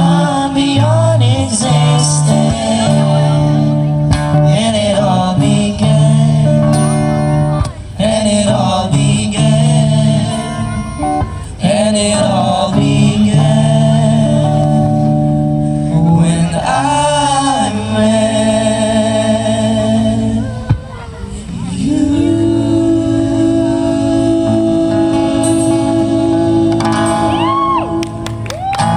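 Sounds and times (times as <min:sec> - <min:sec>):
men singing long held notes: 0:00.0 - 0:28.2
acoustic guitar: 0:00.0 - 0:28.9.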